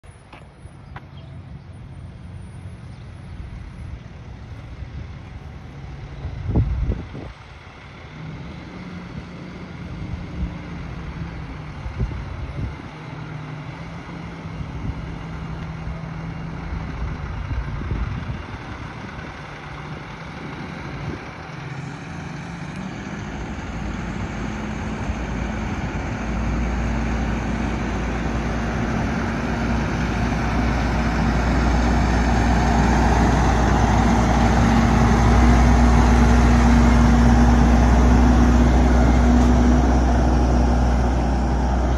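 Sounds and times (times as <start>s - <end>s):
garbage truck diesel engine: 0.0s - 41.9s.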